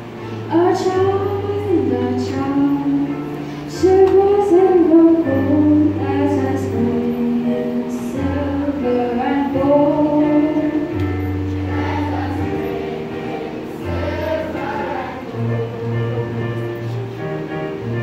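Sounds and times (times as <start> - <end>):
children's choir singing: 0.0 - 17.5
electric keyboard: 0.0 - 18.0.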